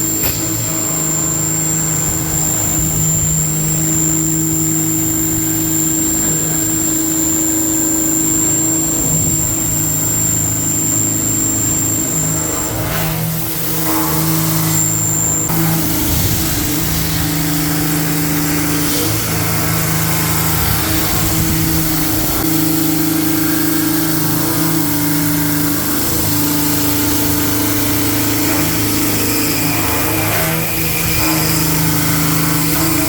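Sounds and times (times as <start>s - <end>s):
milling machine cutting drone: 0.0s - 33.0s.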